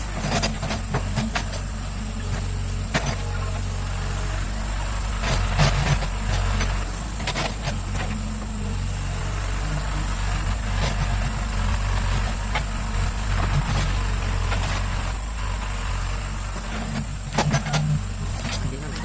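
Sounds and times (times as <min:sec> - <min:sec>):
excavator engine humming: 0:00.0 - 0:19.0.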